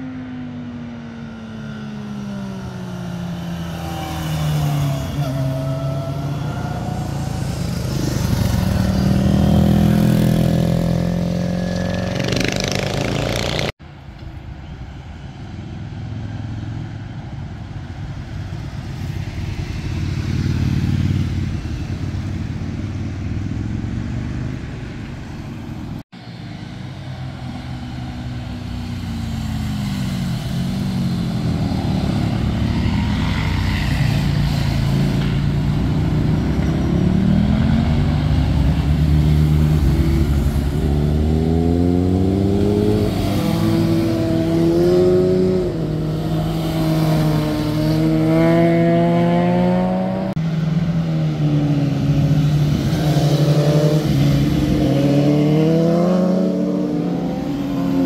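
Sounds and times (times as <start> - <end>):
motorcycle engines passing: 0.0 - 13.8, 14.7 - 58.0.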